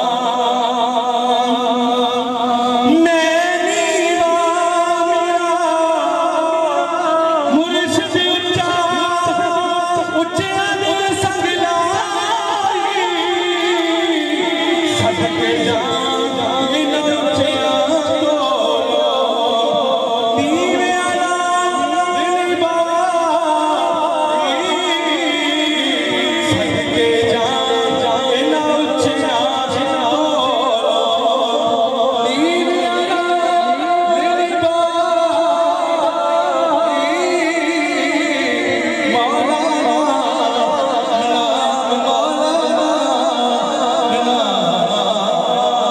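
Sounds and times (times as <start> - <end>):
man singing through loudspeaker: 0.0 - 45.9.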